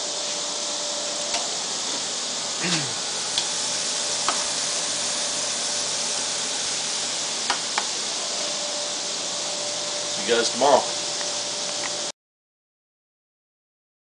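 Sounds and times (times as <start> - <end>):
chicken sizzling on grill: 0.1 - 12.1.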